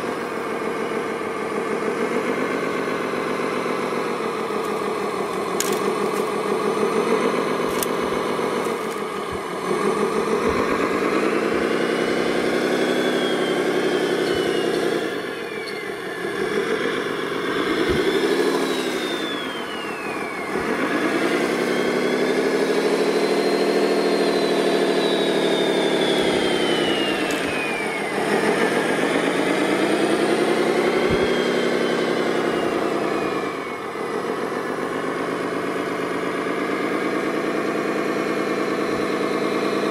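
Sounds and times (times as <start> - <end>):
radio-controlled model motor running: 3.5 - 37.0.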